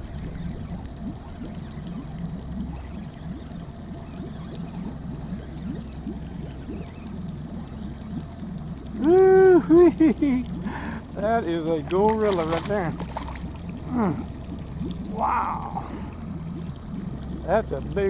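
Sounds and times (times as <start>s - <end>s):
steady low hum: 0.0s - 18.0s
water gurgling around boat: 0.0s - 18.0s.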